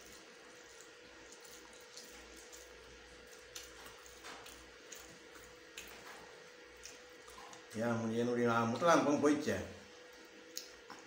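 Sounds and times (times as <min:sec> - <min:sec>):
wet chewing of noodles: 0:00.0 - 0:08.0, 0:09.8 - 0:11.0.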